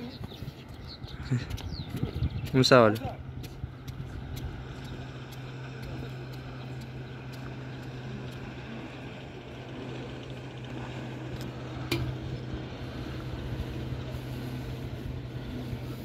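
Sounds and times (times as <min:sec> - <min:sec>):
low engine hum: 0:00.0 - 0:16.0
outdoor ambience: 0:00.0 - 0:16.0.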